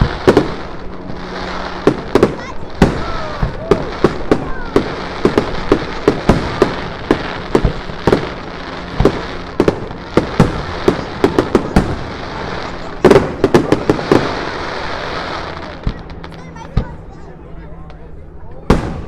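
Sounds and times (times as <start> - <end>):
fireworks bangs: 0.0 - 17.2, 18.6 - 19.0
fireworks crackle: 0.0 - 17.3.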